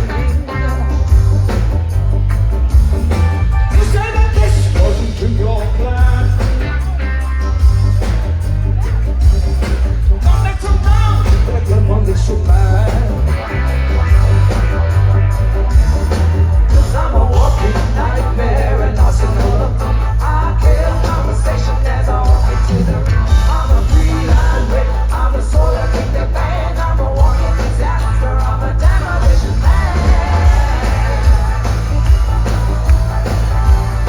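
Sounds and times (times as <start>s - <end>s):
live rock band: 0.0s - 34.0s
strong bass line: 0.0s - 34.0s.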